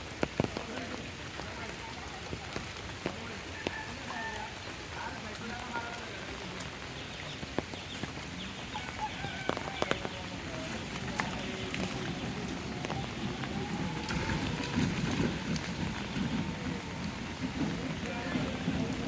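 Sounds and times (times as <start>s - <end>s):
sharp taps of raindrops: 0.0s - 19.0s
steady rain falling: 0.0s - 19.0s.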